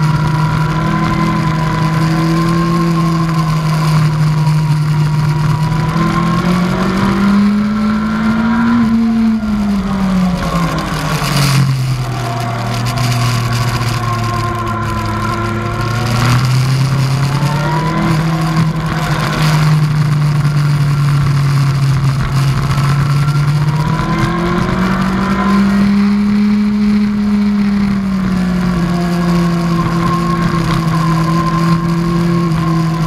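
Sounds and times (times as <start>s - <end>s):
motorcycle engine revving hard: 0.0s - 33.0s
wind noise: 0.0s - 33.0s.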